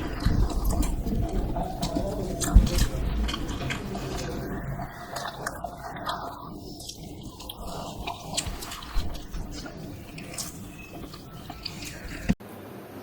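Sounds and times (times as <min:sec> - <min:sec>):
mouth clicks and squishes: 0:00.0 - 0:12.4
wet chewing: 0:00.0 - 0:12.4.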